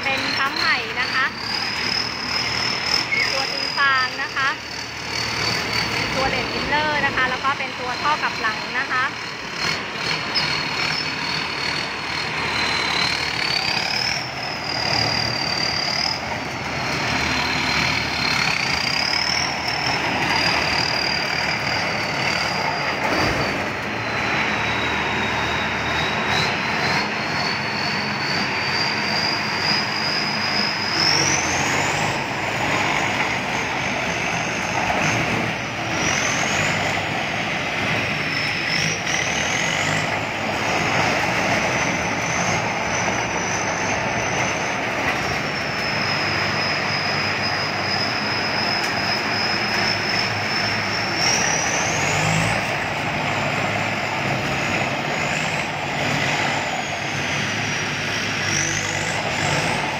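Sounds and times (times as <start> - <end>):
combine harvester engine under load: 0.0 - 59.9
high whine: 0.0 - 59.9.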